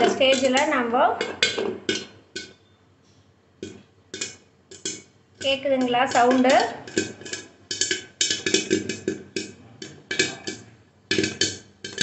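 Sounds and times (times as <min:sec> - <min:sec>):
popcorn popping in a pot: 0:00.0 - 0:02.8, 0:03.6 - 0:12.0.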